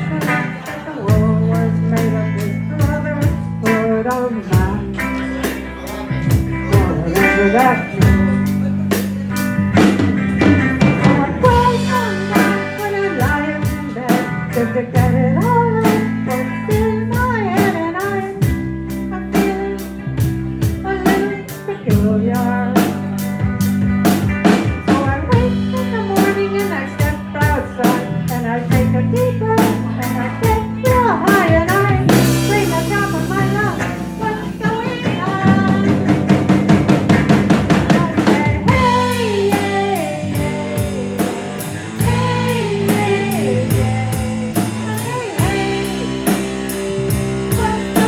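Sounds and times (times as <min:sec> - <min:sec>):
lead guitar bending notes: 0:00.0 - 0:21.7, 0:28.8 - 0:48.0
bass guitar: 0:00.0 - 0:48.0
drum kit beat: 0:00.0 - 0:48.0
live blues-rock band: 0:00.0 - 0:48.0.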